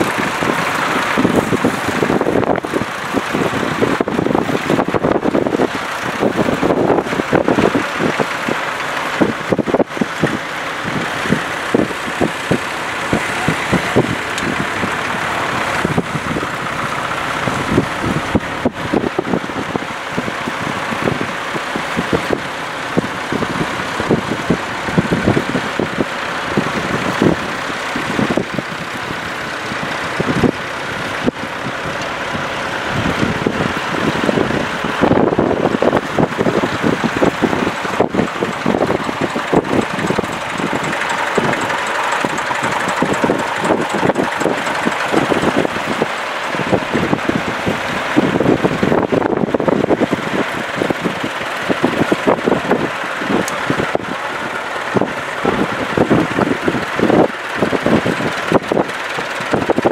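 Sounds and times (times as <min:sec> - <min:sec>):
tractor engines running: 0:00.0 - 0:59.9
wind buffeting microphone: 0:00.0 - 0:59.9.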